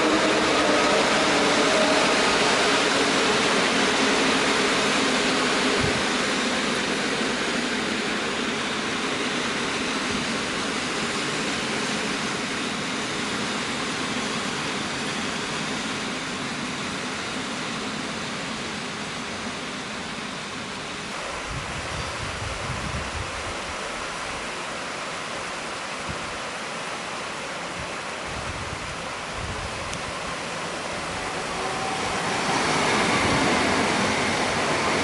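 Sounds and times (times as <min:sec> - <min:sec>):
faint locomotive hum: 0:00.0 - 0:35.0
train wheels rumbling on rails: 0:00.0 - 0:35.0.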